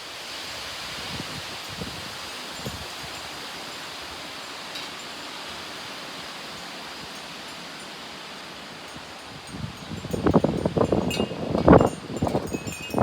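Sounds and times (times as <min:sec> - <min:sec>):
wind blowing through trees: 0:00.0 - 0:13.0.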